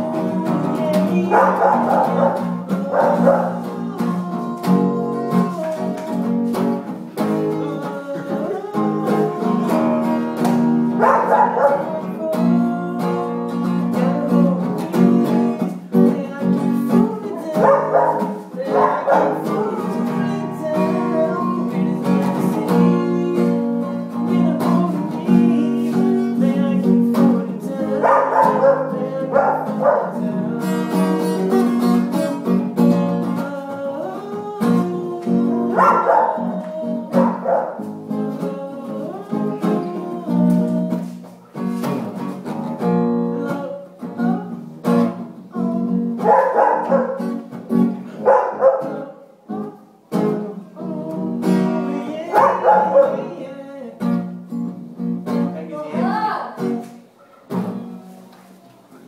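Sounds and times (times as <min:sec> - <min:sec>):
background music with plucked guitar: 0:00.0 - 0:58.4.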